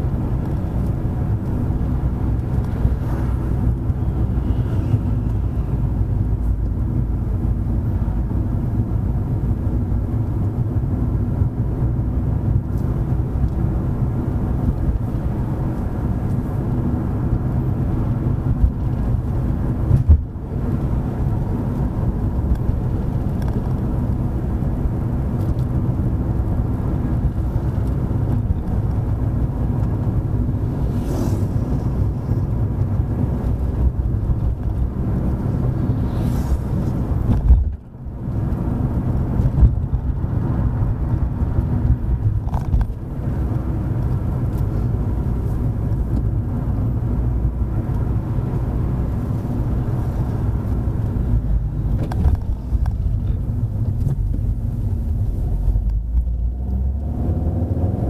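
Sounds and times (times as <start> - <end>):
car engine drone: 0.0 - 58.0
road rumble: 0.0 - 58.0.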